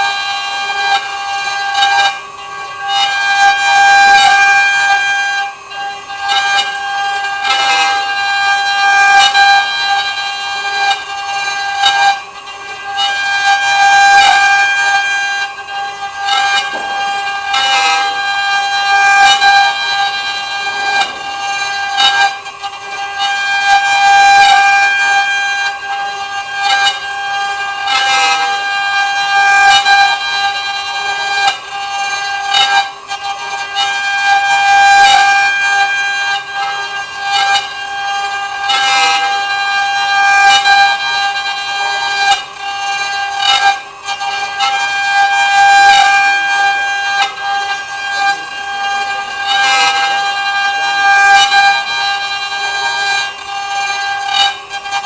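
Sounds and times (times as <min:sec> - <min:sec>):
wood router spindle whining: 0:00.0 - 0:55.0.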